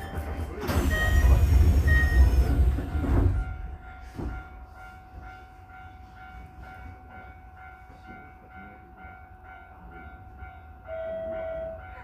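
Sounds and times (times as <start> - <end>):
train rumble with high tones: 0.0 - 12.0
train steady hum: 0.0 - 12.0.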